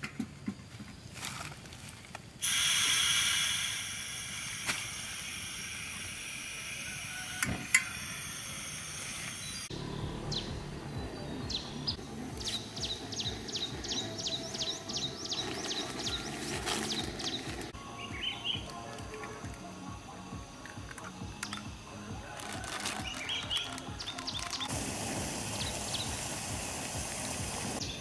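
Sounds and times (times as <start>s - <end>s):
gas stove hissing: 2.4s - 10.8s, 11.5s - 28.0s.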